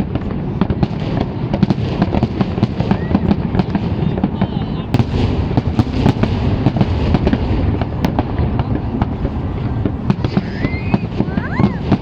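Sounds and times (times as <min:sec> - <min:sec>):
fireworks popping and banging: 0:00.0 - 0:12.0
low rumble of booming bursts: 0:00.1 - 0:12.0.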